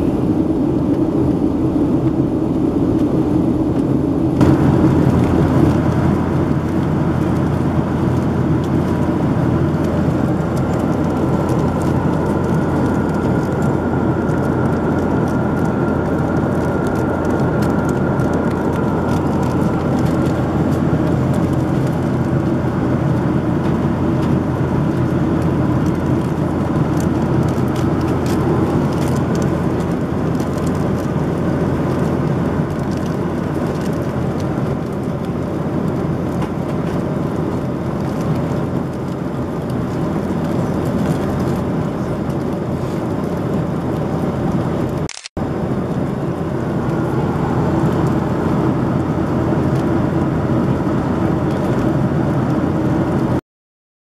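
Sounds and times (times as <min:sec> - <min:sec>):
airplane cabin rushing noise: 0:00.0 - 0:53.4.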